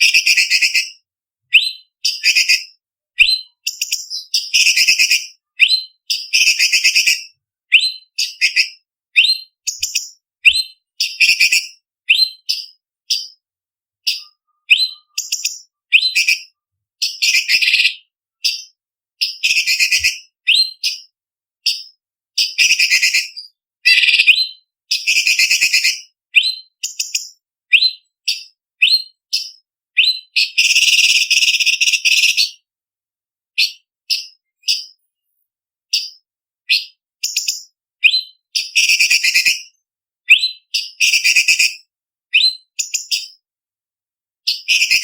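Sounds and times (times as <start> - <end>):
bird whistled song: 0.0 - 13.4, 14.0 - 32.6, 33.6 - 35.0, 35.9 - 43.4, 44.5 - 45.0.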